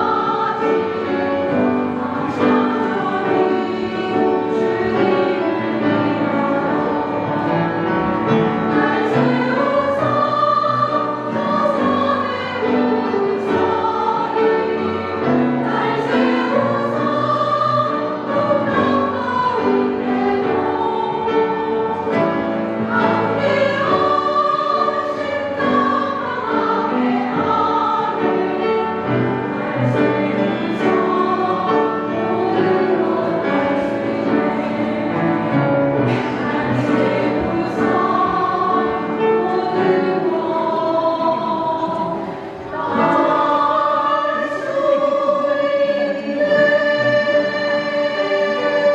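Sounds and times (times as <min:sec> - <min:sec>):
women singing in harmony: 0:00.0 - 0:48.9.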